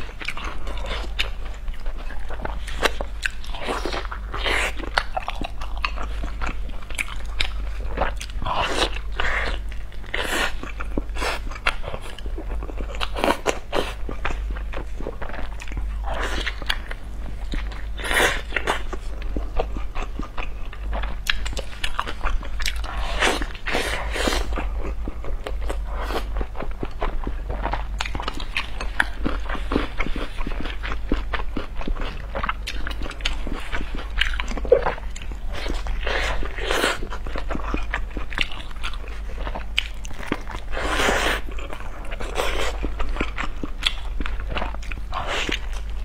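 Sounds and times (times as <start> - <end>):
biting and chewing: 0.0 - 46.0.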